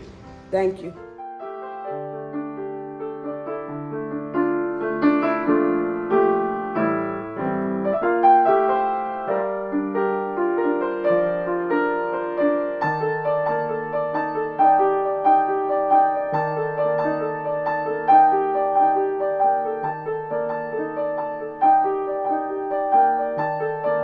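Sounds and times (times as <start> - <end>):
slow solo piano piece: 0.0 - 24.0.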